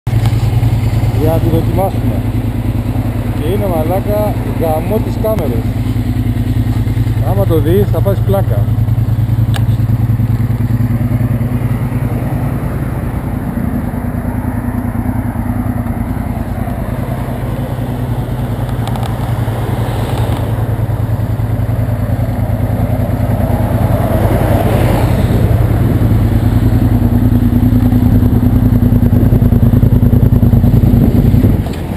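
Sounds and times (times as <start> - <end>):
motorcycle engine idling: 0.1 - 31.9
vehicle passing: 0.6 - 29.3.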